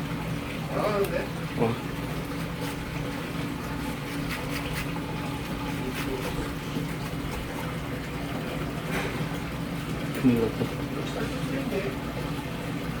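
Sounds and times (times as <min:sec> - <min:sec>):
water pump hum: 0:00.0 - 0:13.0.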